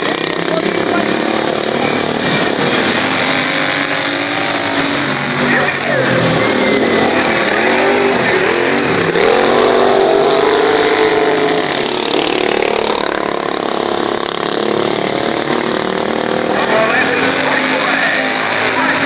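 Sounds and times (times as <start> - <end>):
racing lawn mower engines: 0.0 - 19.0.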